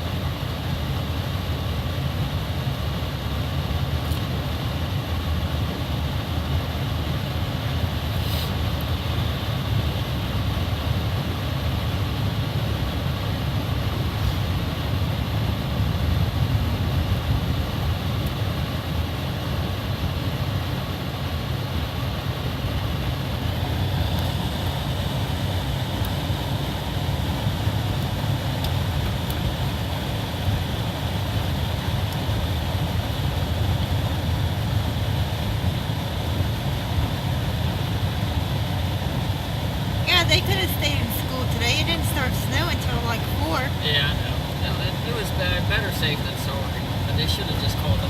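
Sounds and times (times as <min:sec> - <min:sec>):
car driving on snowy road: 0:00.1 - 0:48.0.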